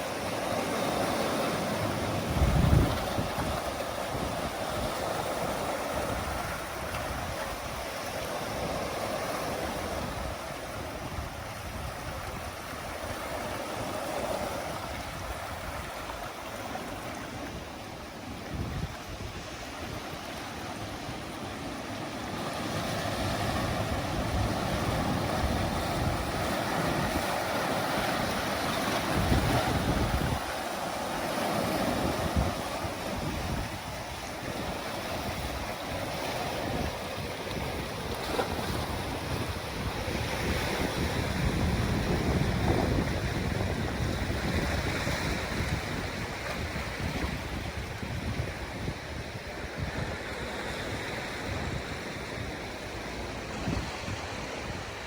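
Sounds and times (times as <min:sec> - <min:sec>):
ocean waves washing: 0:00.0 - 0:55.0
wind rumble on microphone: 0:00.0 - 0:55.0.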